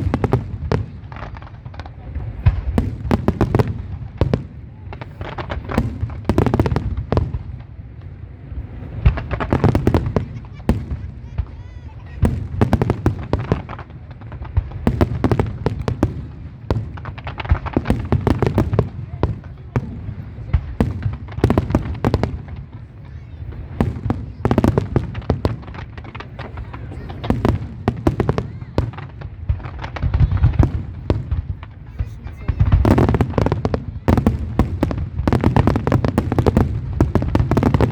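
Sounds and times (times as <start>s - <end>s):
fireworks crackling bangs: 0.0s - 37.9s.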